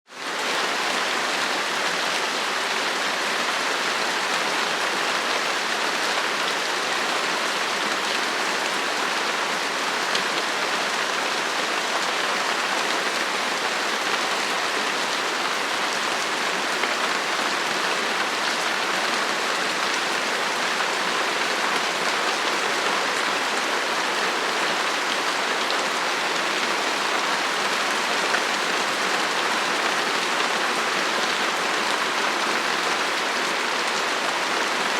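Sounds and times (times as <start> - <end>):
light rain falling: 0.1 - 34.9.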